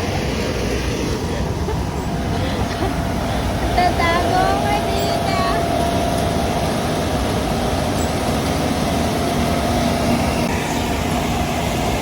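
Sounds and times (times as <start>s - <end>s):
harvesting machinery engine running: 0.0s - 12.0s
steady machine whine: 0.0s - 12.0s.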